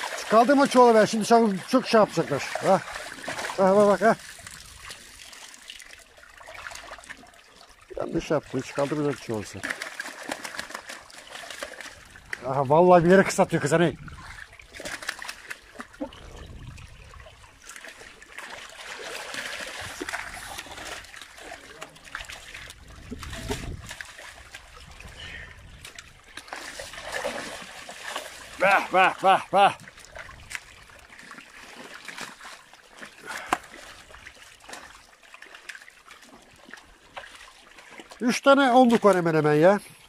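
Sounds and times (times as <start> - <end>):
small splashes and drips: 0.0 - 39.6
water trickling in a channel: 0.0 - 40.0.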